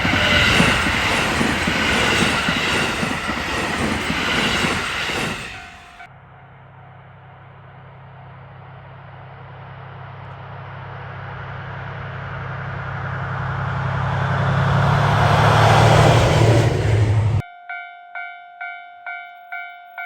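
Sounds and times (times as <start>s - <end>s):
train approaching: 0.0s - 20.0s.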